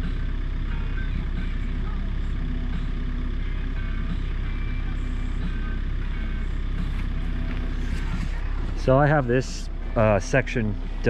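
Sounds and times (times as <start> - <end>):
excavator diesel engine idling: 0.0 - 11.0.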